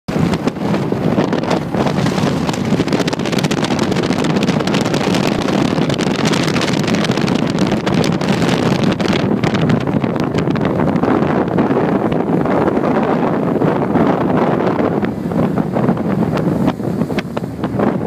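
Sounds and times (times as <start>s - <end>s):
boat engines rumbling: 0.1s - 18.0s
churning wake water: 0.1s - 18.0s
wind buffeting microphone: 0.1s - 18.0s.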